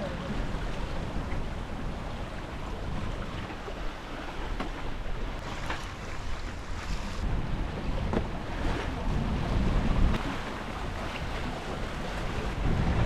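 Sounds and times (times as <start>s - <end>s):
wind buffeting microphone: 0.0s - 4.4s, 5.3s - 13.0s
waves washing along hull: 0.0s - 13.0s.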